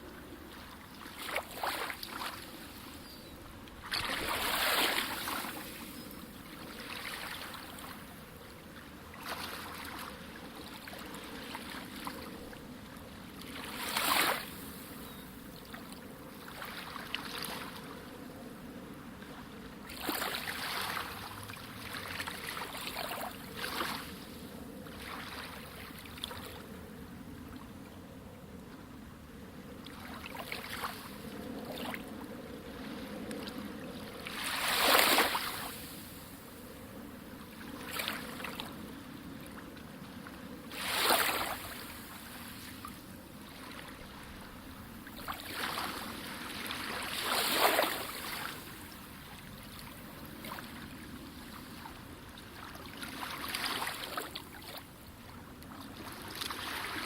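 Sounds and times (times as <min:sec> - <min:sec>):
sea waves breaking: 0:00.0 - 0:03.0, 0:03.7 - 0:12.5, 0:13.5 - 0:15.0, 0:19.3 - 0:27.2, 0:29.6 - 0:55.0, 0:55.8 - 0:57.0.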